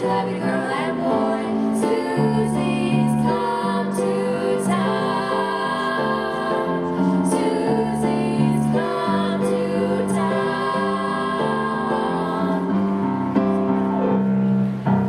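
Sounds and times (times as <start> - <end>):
youth choir singing: 0.0 - 13.2.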